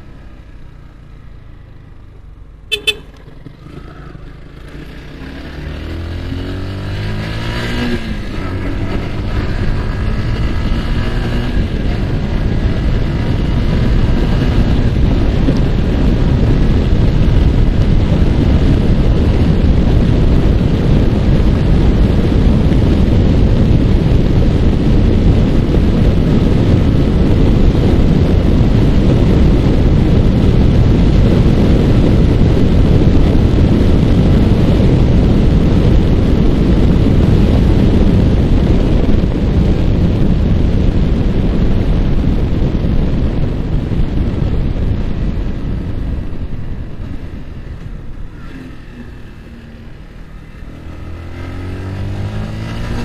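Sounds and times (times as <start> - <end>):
motorcycle engine: 0.0 - 53.0
wind rushing over microphone: 2.7 - 53.0.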